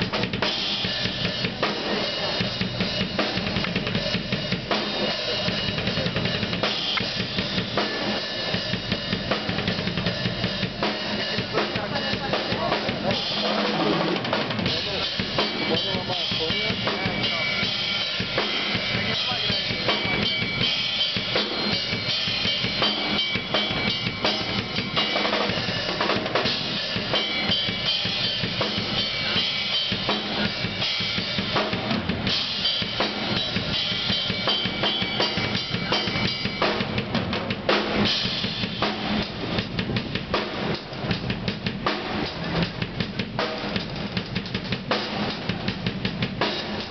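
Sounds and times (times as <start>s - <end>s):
drum kit playing steady beat: 0.0s - 46.9s.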